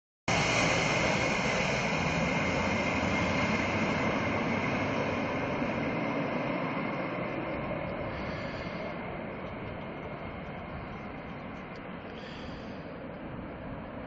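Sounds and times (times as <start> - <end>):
jet engine with high whine: 0.3 - 14.0.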